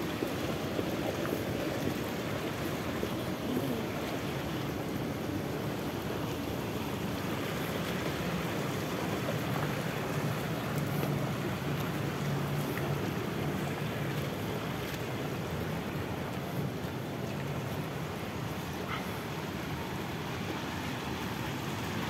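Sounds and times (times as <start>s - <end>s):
fountain jets splashing into pools: 0.0s - 22.0s.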